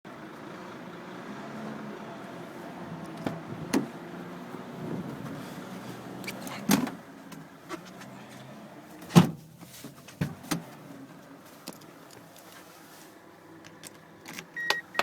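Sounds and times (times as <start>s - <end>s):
van engine idling: 0.1s - 15.0s.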